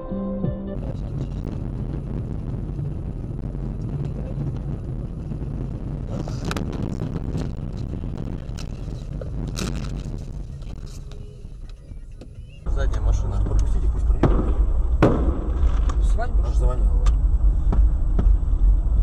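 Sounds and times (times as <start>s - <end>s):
engine and tyres rumbling on snow: 0.7s - 19.0s.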